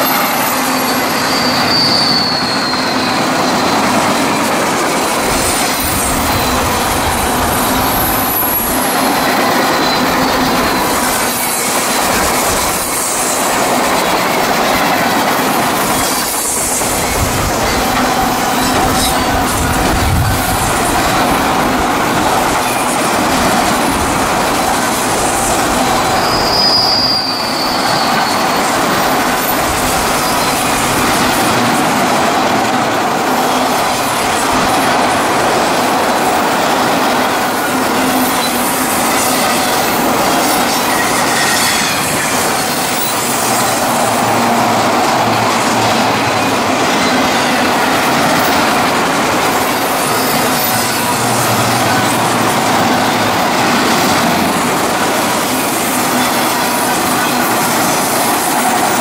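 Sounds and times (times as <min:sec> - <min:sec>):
high wheel squeal: 0:00.0 - 0:59.0
train wheels rumbling on rails: 0:00.0 - 0:59.0.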